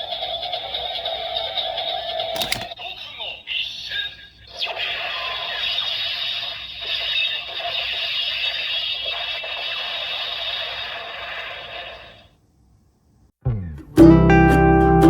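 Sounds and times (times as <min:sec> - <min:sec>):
crackling electronic toy sound: 0:00.0 - 0:12.3.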